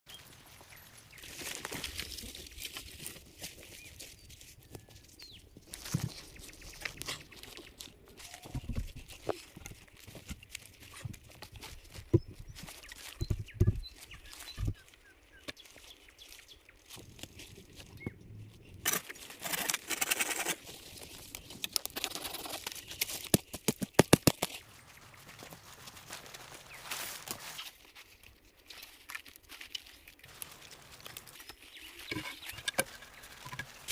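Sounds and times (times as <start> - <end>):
branches and brush rustling: 0.1 - 33.9.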